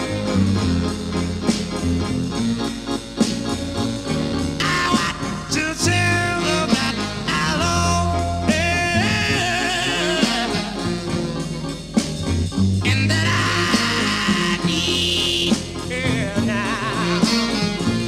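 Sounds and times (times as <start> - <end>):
instrumental love song music: 0.0 - 18.0.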